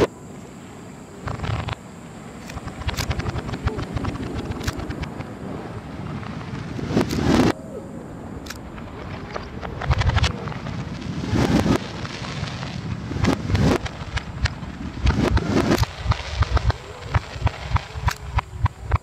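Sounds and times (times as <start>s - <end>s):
reversed fireworks bursts and crackling: 0.0s - 0.2s, 1.2s - 19.0s.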